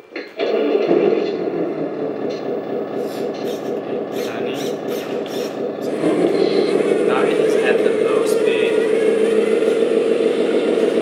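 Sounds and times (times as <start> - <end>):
simulated diesel engine running: 0.4 - 11.0.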